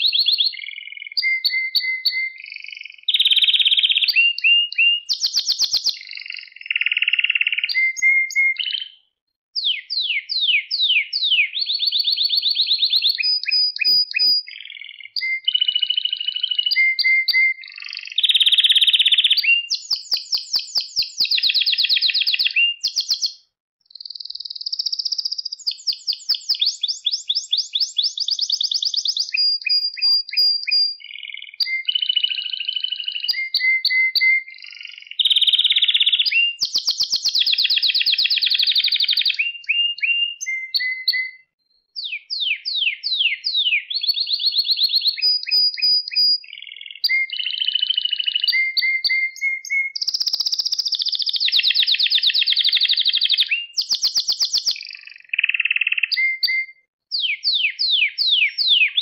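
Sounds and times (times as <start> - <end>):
canary singing: 0.0 - 9.0, 9.6 - 59.0.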